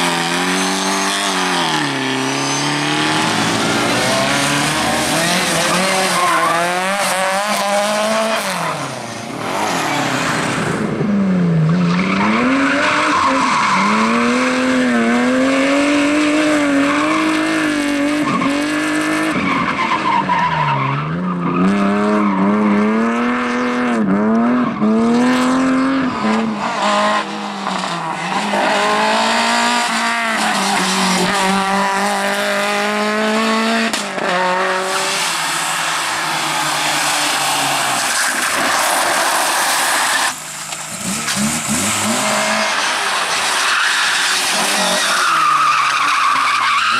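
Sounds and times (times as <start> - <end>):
tyres squealing and skidding: 0.0 - 10.6, 11.6 - 22.8, 24.4 - 32.4, 34.6 - 46.9
rally car engine at full throttle: 0.0 - 46.9.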